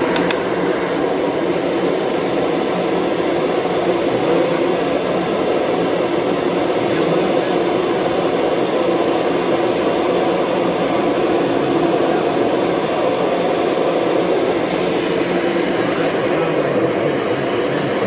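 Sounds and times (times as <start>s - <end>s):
upright vacuum cleaner running: 0.0s - 18.0s.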